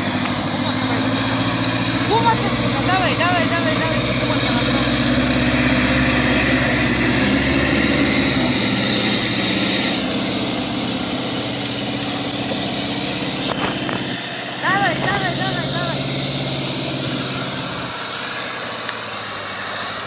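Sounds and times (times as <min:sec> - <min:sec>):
motor engine running: 0:00.0 - 0:19.9.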